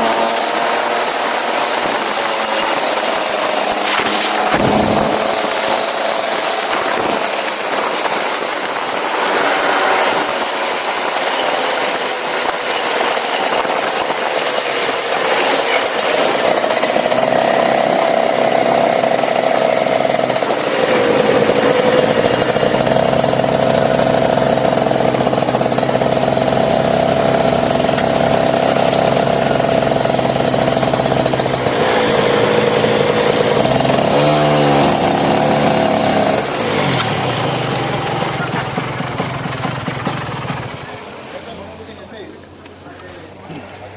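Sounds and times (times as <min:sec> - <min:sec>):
go-kart engine running hard: 0:00.0 - 0:43.9.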